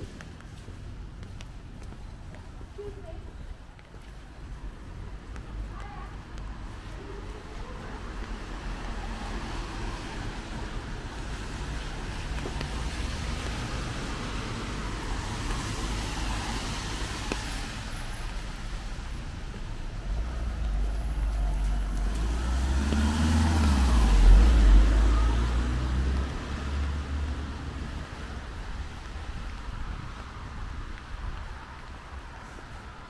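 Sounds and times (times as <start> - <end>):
city street traffic: 0.0 - 33.0.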